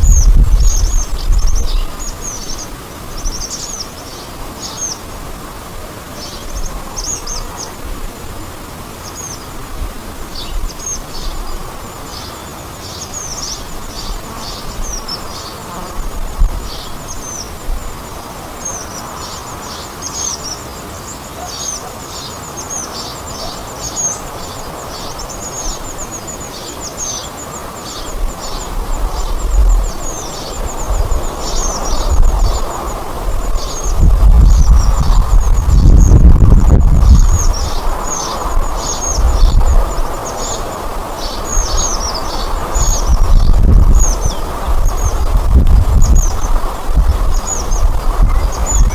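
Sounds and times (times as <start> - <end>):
small birds chirping: 0.0 - 5.5, 6.1 - 7.9, 8.9 - 9.6, 10.3 - 48.9
wind rumble on microphone: 0.0 - 8.8, 9.4 - 12.1, 13.4 - 19.4, 24.2 - 48.9
steady background hiss: 0.0 - 48.9.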